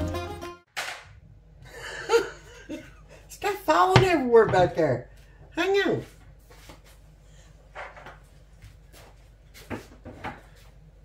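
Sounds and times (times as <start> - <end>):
low steady hum: 1.1 - 11.0.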